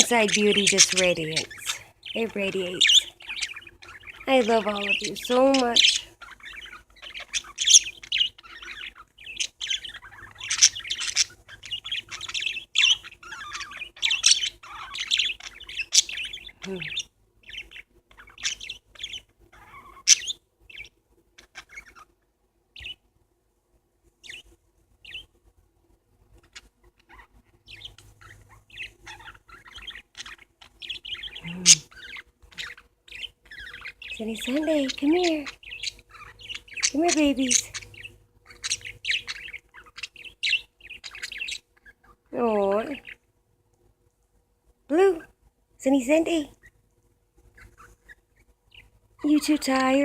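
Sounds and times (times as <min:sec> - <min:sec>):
parakeets chattering and chirping: 0:00.0 - 0:22.2, 0:22.8 - 0:23.0, 0:24.2 - 0:25.4, 0:26.3 - 0:43.3, 0:44.9 - 0:50.0.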